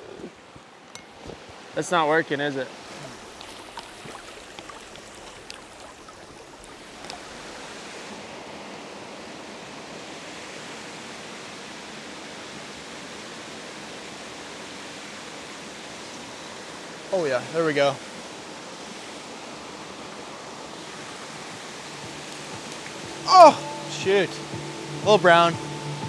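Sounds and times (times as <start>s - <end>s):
stream rushing over rocks: 0.4s - 26.0s.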